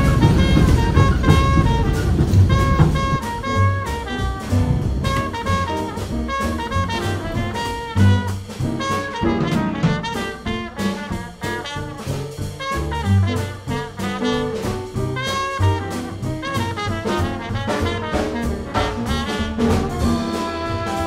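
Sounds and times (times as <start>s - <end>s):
jazz music with brass horns: 0.0s - 21.0s.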